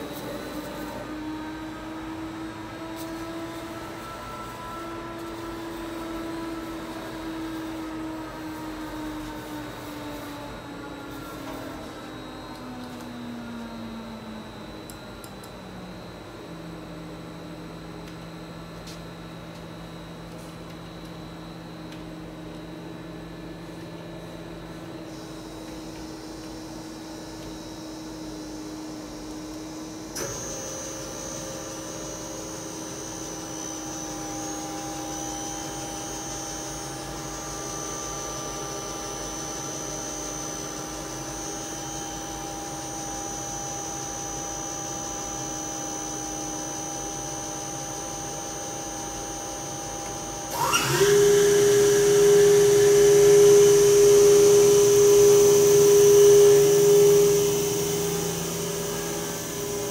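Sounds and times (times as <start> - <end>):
machine spindle whine: 0.0 - 59.9.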